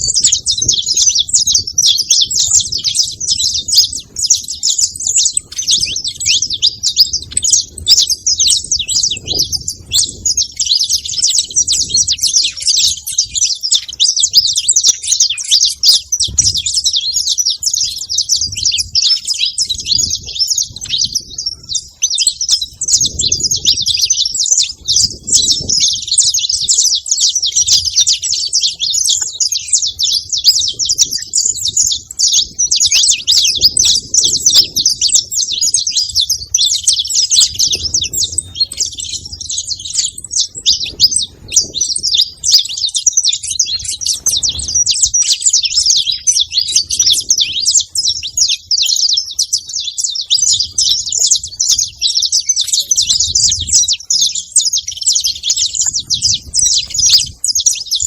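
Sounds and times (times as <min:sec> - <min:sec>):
finch chirping and singing: 0:00.0 - 0:58.0.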